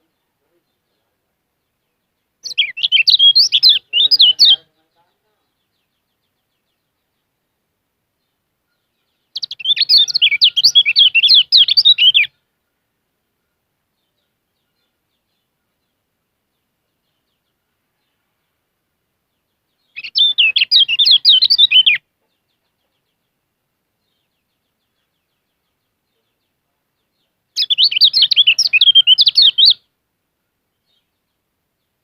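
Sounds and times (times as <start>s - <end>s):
bird twittering song: 0.0s - 7.6s, 8.2s - 29.9s, 30.7s - 32.0s.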